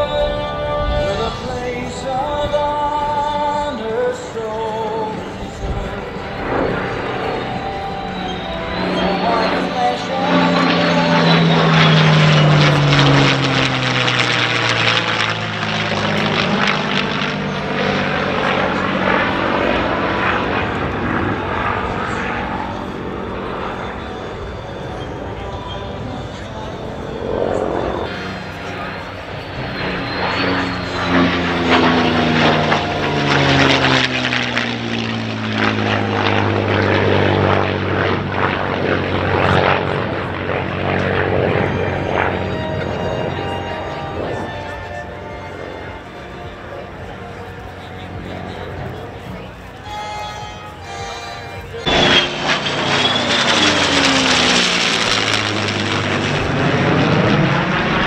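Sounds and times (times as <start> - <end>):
broad rushing jet noise: 0.0 - 58.0
propeller plane engine drone: 0.0 - 58.0.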